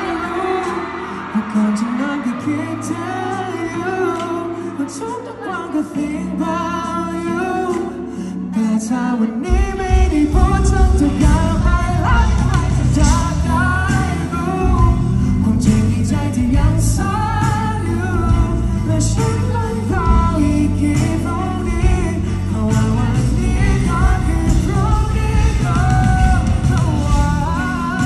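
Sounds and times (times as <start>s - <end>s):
band playing pop music: 0.0s - 28.0s
man singing into a microphone: 0.0s - 28.0s.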